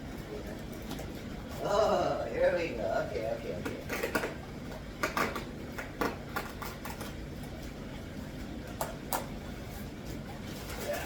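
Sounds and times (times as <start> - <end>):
low equipment hum: 0.0 - 11.0.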